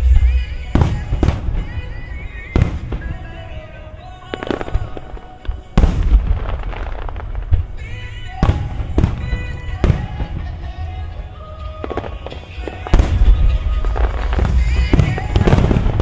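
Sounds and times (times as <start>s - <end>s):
firework crackling: 0.0s - 16.0s
firework shells bursting: 0.0s - 16.0s
show music: 0.0s - 16.0s.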